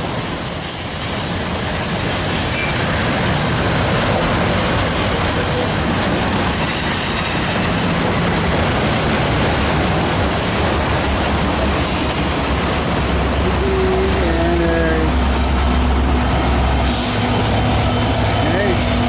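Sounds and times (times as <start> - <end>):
diesel locomotive drone: 0.0 - 19.0
freight cars rumbling and rattling: 0.0 - 19.0.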